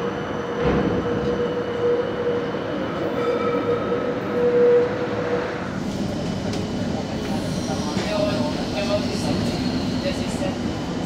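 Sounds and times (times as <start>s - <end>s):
tram rolling noise: 0.0s - 11.0s
tram whine: 0.0s - 11.0s.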